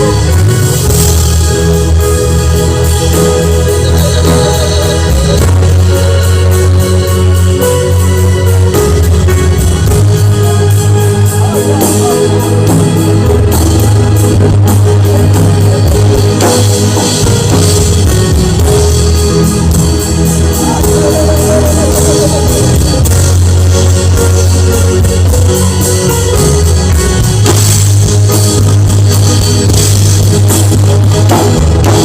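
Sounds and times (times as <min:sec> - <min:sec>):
cymbal beat: 0:00.0 - 0:32.0
instrumental worship music: 0:00.0 - 0:32.0.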